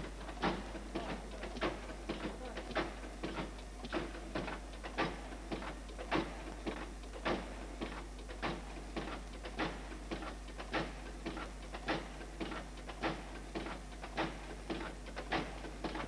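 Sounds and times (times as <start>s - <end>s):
machine knocking rhythmically: 0.0s - 16.0s.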